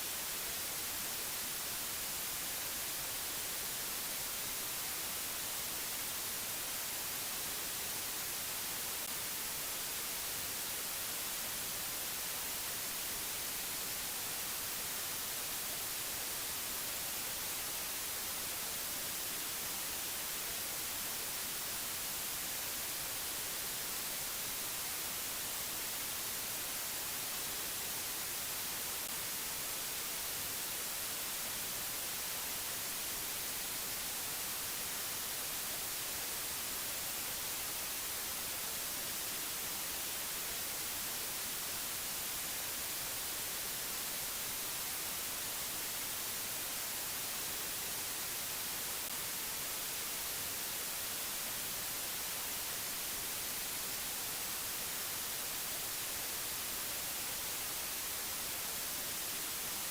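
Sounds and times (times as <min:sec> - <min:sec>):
static hiss: 0:00.0 - 0:59.9.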